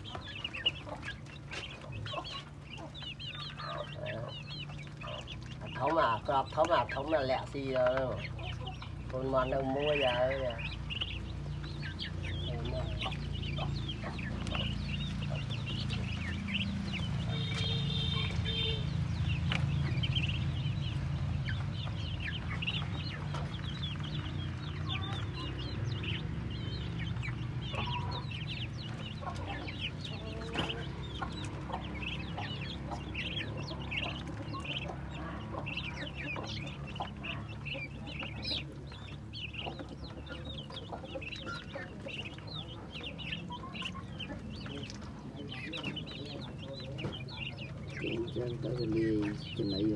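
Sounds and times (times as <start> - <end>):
ducklings peeping: 0.0 - 49.9.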